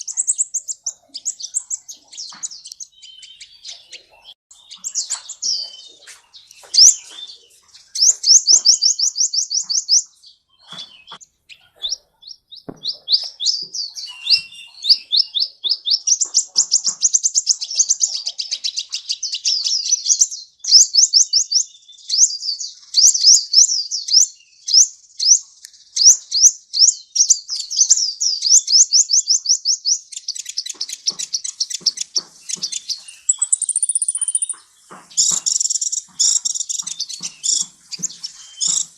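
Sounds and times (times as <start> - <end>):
sunbird song high trills: 0.0 - 38.9.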